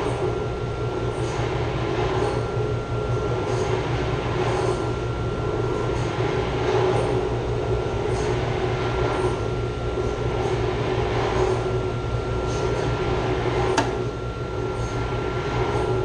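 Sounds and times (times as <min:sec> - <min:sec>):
pump rumbling hum: 0:00.0 - 0:16.0.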